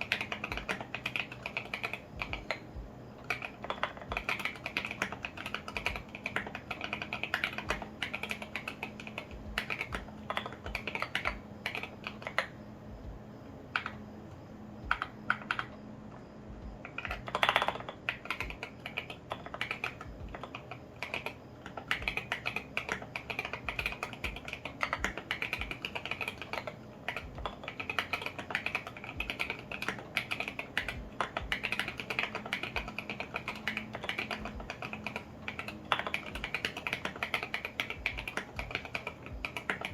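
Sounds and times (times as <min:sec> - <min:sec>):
typing on mechanical keyboard: 0:00.0 - 0:14.1, 0:14.8 - 0:15.8, 0:16.8 - 0:39.9.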